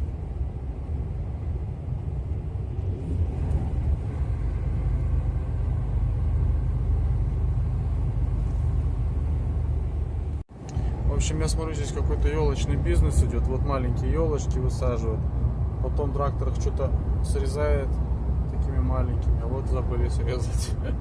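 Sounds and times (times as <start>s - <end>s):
truck engine and tyres rumbling: 0.0s - 21.0s.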